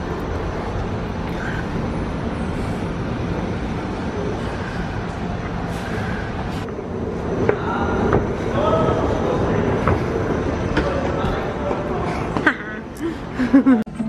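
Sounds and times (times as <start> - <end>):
ventilation wash: 0.0 - 14.0.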